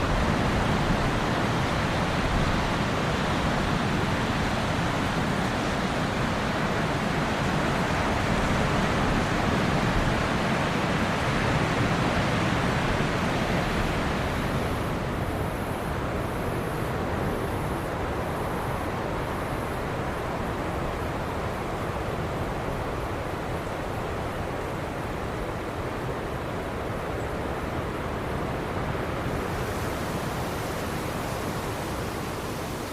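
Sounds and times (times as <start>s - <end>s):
surf washing on beach: 0.0s - 32.9s.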